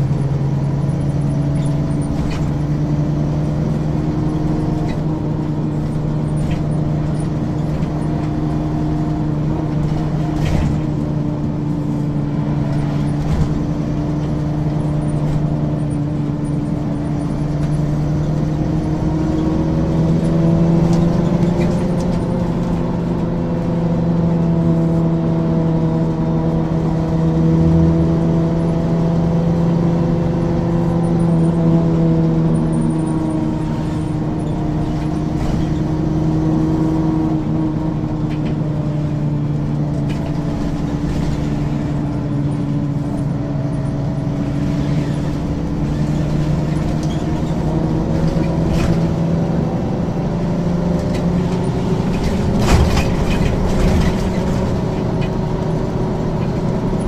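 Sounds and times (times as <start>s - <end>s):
bus engine droning: 0.0s - 57.0s.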